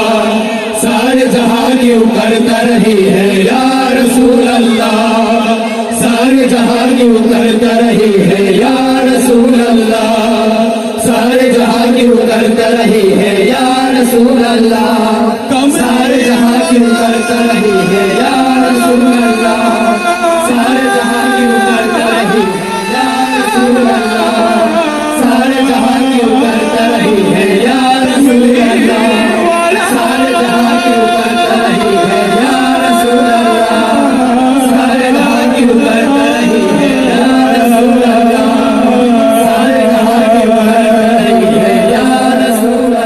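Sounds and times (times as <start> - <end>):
voices singing with accompaniment: 0.0 - 43.0.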